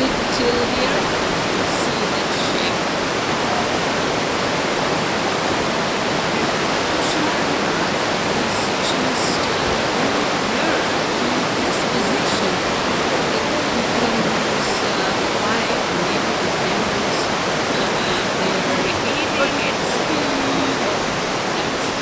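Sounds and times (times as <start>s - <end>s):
river water rushing through gorge: 0.0s - 22.0s.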